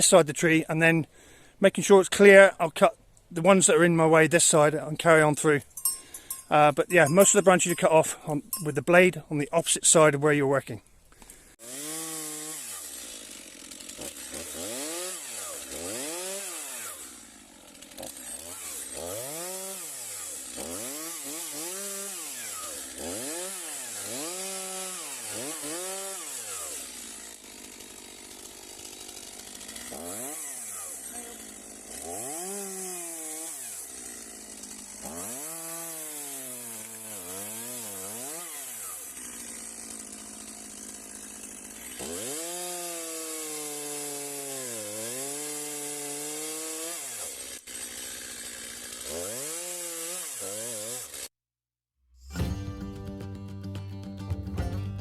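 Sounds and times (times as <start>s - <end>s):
chainsaw cutting branches: 4.5s - 10.0s, 10.9s - 51.4s.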